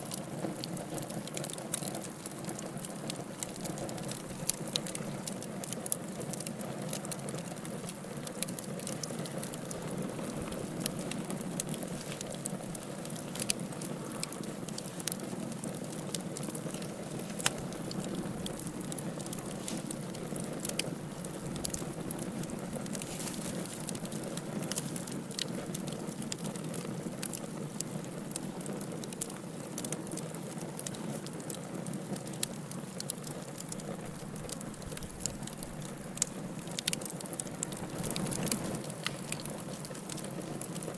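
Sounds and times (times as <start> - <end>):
fire crackling and popping: 0.0 - 40.9
fire flames rushing: 0.2 - 40.9.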